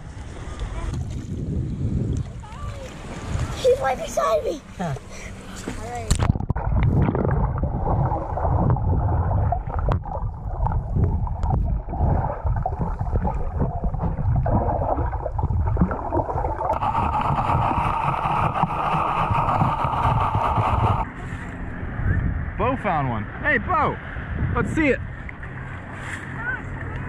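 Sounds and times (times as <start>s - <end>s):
muffled underwater churning rumble: 0.0s - 27.0s.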